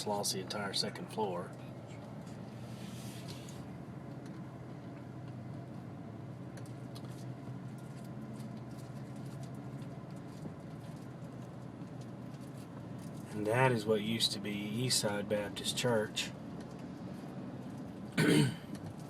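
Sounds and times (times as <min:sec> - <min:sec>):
car road and engine hum: 0:00.0 - 0:19.0.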